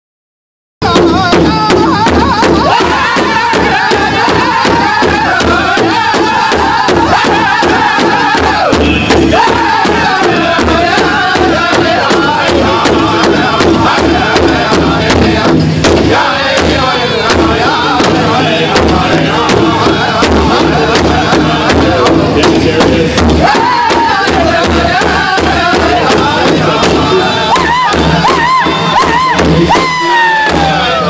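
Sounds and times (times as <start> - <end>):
group singing in high voices: 0.8 - 31.0
large drum steady beat: 0.8 - 31.0.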